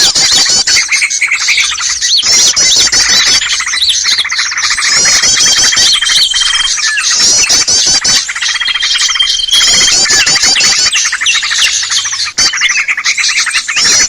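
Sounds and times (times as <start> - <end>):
chorus of small birds chirping: 0.0 - 14.0.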